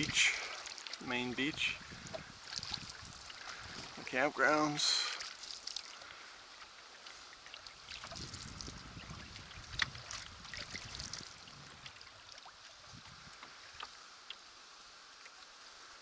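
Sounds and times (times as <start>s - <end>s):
water lapping against hull: 0.0s - 14.4s
small splashes and drips: 0.0s - 15.8s
canoe paddle strokes: 0.0s - 16.0s.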